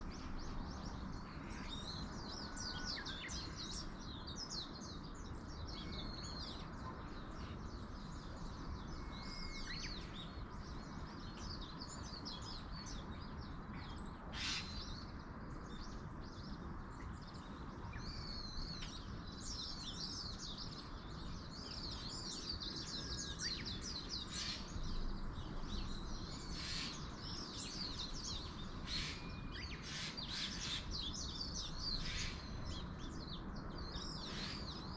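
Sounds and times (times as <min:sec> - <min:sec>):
small birds chirping: 0:00.0 - 0:34.9
wind in trees: 0:00.0 - 0:34.9.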